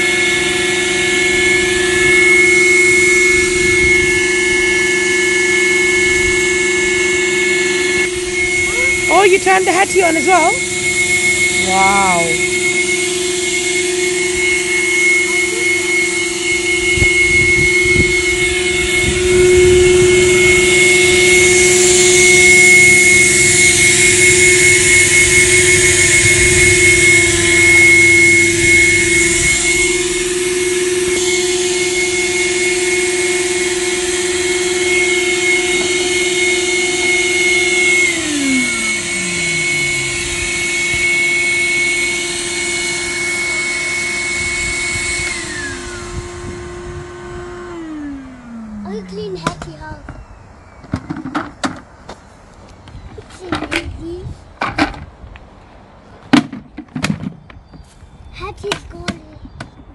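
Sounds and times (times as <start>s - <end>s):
vacuum motor winding down: 0.0s - 51.8s
vacuum cleaners whining: 0.0s - 59.9s.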